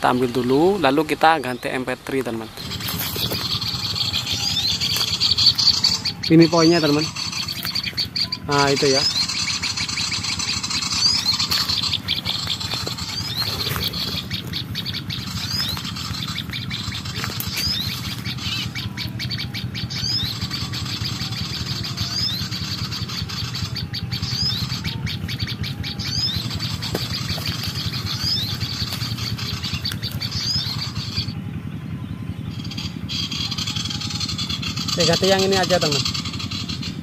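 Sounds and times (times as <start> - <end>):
small birds chirping: 0.0 - 37.0
steady low hum: 0.0 - 37.0.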